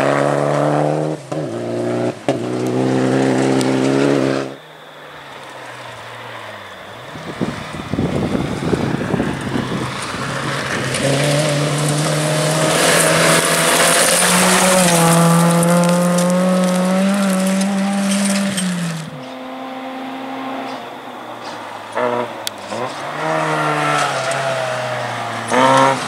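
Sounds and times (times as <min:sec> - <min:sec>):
rally car engine accelerating: 0:00.0 - 0:04.6, 0:07.0 - 0:26.0
faint car engine: 0:00.0 - 0:26.0
gravel spraying from tyres: 0:01.6 - 0:19.3, 0:21.4 - 0:26.0.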